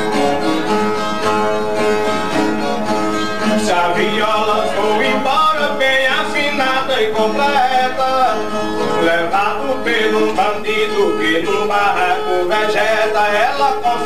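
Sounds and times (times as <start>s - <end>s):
guitar strummed and picked: 0.0s - 14.0s.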